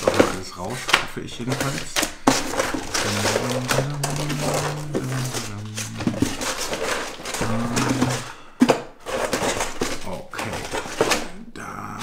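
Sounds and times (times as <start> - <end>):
plastic packaging rustling: 0.0 - 11.5.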